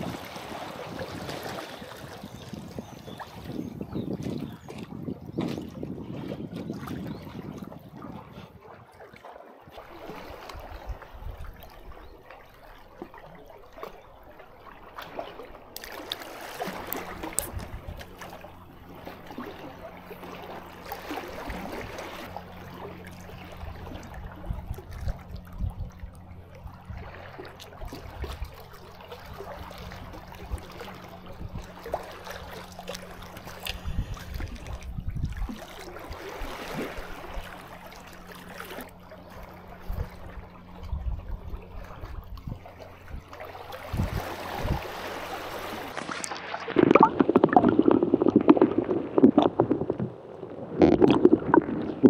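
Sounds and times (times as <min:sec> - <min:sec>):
sea water sloshing and gurgling: 0:00.0 - 0:52.0
steady low hum: 0:09.8 - 0:52.0.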